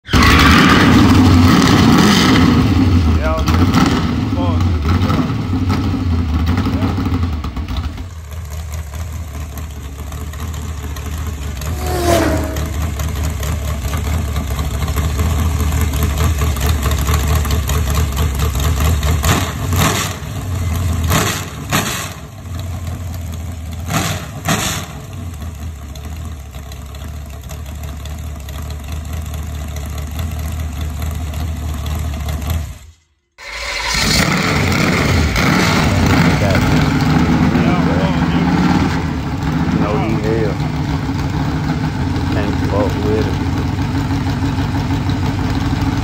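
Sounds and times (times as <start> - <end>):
engine revving with exhaust cracks: 0.0 - 25.6, 33.4 - 46.0
engine idling: 0.0 - 46.0.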